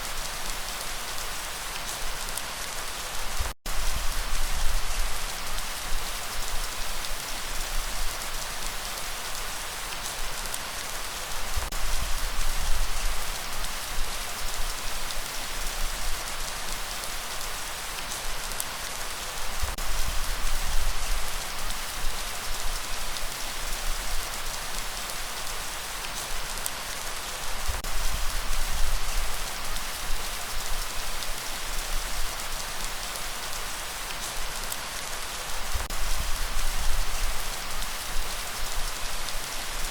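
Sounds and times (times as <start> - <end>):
rain drops ticking: 0.0 - 39.9
rain hiss: 0.0 - 39.9.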